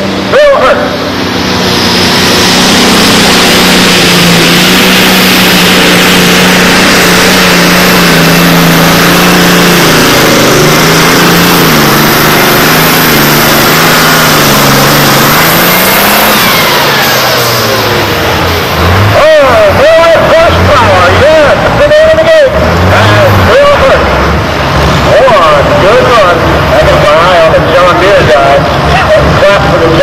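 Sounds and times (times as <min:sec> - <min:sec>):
diesel engine under heavy load: 0:00.0 - 0:30.0.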